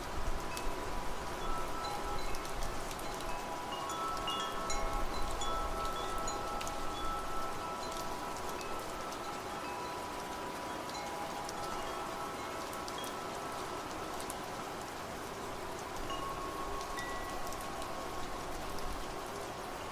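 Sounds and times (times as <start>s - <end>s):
steady rain: 0.0s - 19.9s
wind chimes ringing: 0.4s - 14.8s, 15.4s - 19.9s.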